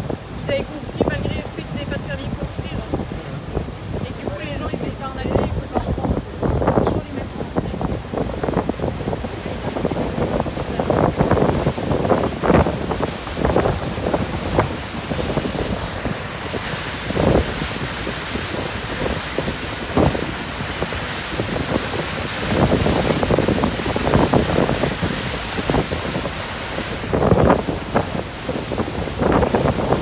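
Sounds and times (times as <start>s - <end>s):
sea water washing: 0.0s - 30.0s
wind buffeting microphone: 0.0s - 30.0s.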